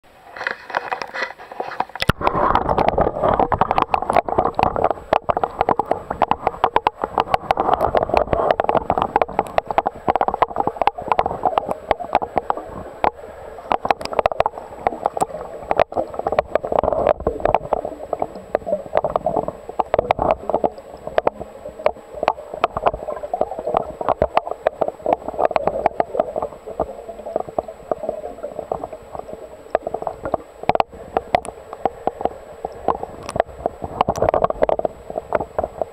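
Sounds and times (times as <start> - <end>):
underwater gurgling and crackling: 0.0 - 35.9.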